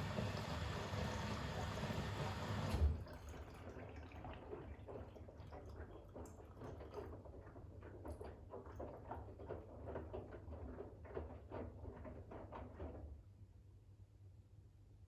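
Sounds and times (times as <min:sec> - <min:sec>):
washing splashing in drum: 0:00.0 - 0:13.1
washing machine hum: 0:00.0 - 0:13.5.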